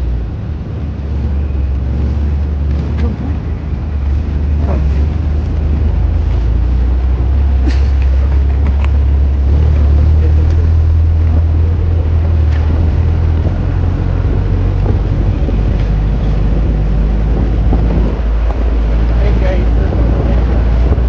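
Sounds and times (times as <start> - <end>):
vehicle engine droning: 0.0 - 21.0
wind rushing over microphone: 0.0 - 21.0.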